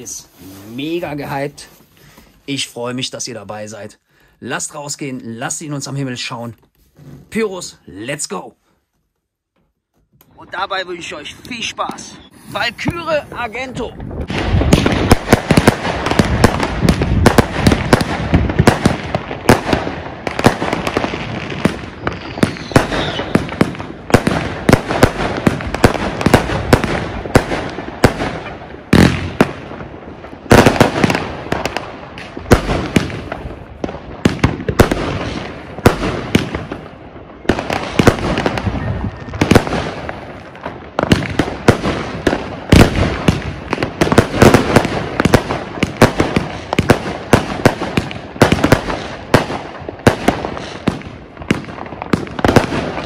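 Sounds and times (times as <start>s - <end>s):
fireworks launching and bursting: 0.0s - 6.5s, 10.3s - 53.0s
heavy firework bangs: 10.5s - 53.0s.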